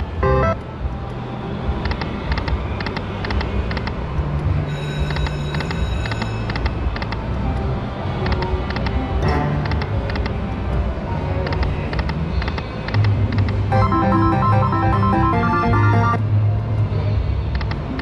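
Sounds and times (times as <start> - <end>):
low casino floor hum: 0.0 - 18.0.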